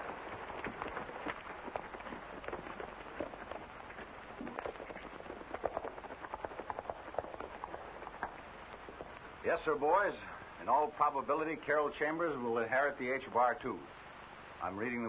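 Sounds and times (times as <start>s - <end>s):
hooves clopping on stony ground: 0.0s - 13.5s
film soundtrack hiss: 0.0s - 15.0s.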